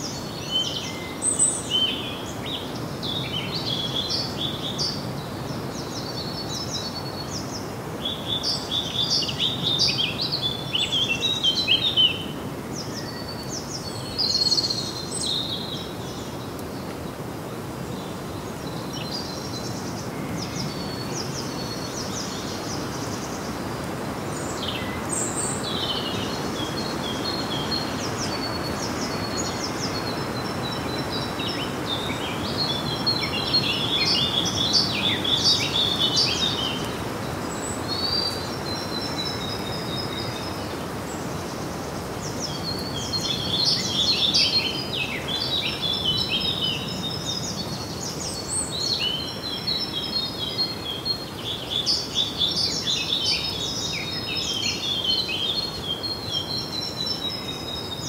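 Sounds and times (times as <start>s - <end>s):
songbirds chirping and trilling: 0.0s - 58.0s
steady background hiss: 0.0s - 58.0s.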